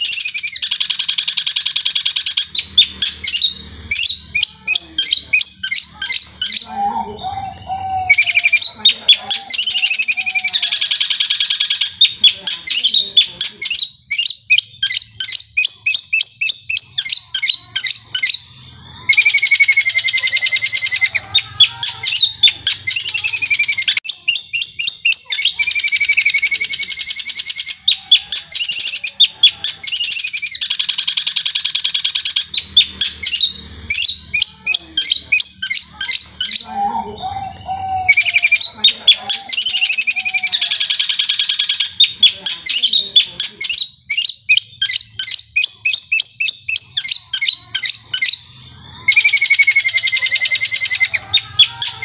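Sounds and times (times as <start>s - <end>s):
shrike singing rapid trills: 0.0s - 52.0s.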